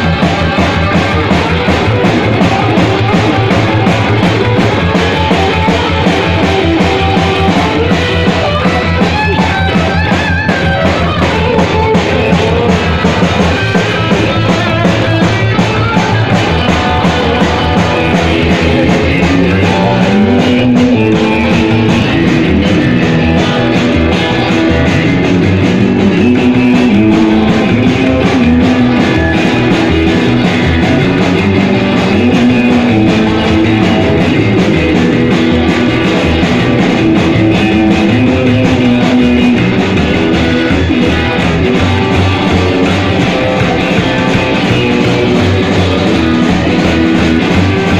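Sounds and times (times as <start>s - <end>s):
rock song with guitar: 0.0s - 47.9s.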